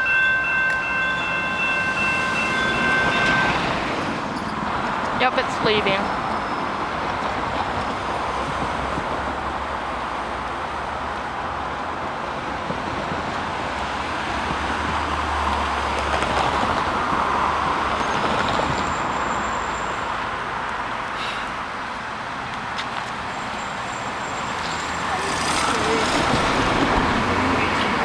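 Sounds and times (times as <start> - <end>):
diesel train engine hum: 0.0 - 28.0
rumble of rolling train cars: 0.0 - 28.0.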